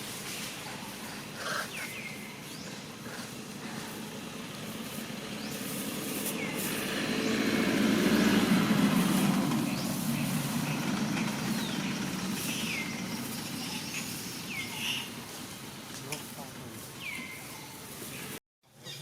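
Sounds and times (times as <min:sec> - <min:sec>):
vehicle passing by: 0:00.0 - 0:18.4.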